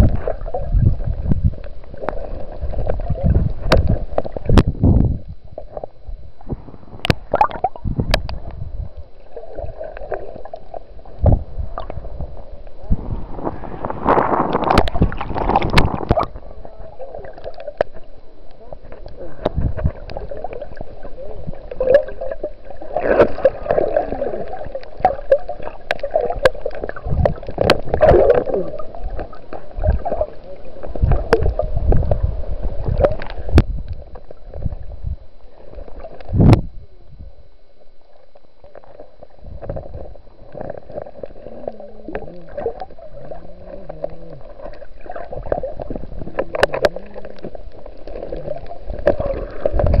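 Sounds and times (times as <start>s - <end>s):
muffled underwater gurgling: 0.0s - 50.0s.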